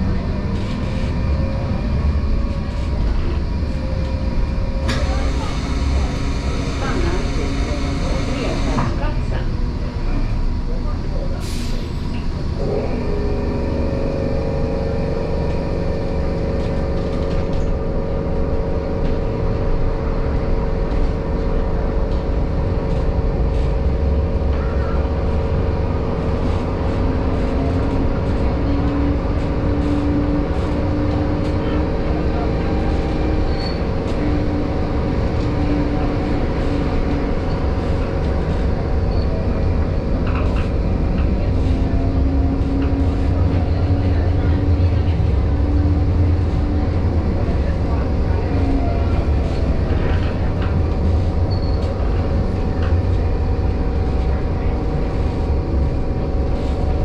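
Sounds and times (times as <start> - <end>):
low whine: 0.0 - 57.0
tram wheels rumbling on rails: 0.0 - 57.0.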